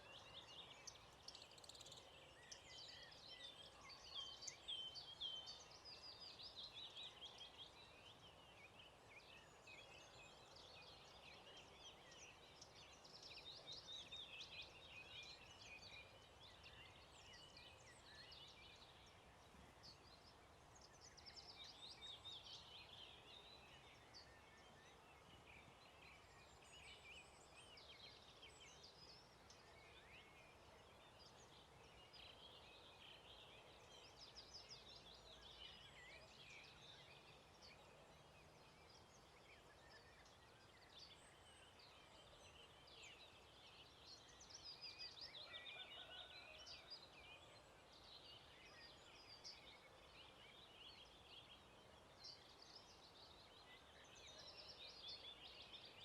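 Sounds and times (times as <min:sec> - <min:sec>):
low outdoor hiss: 0:00.0 - 0:56.0
songbirds chirping and trilling: 0:00.0 - 0:56.0.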